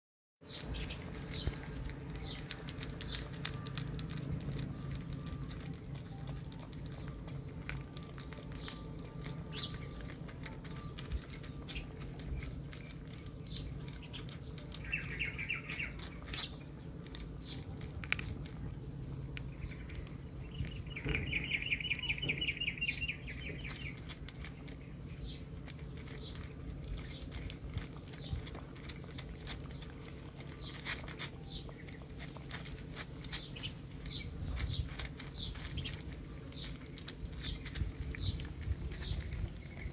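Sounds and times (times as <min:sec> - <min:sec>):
wet clicks: 0:00.5 - 0:39.9.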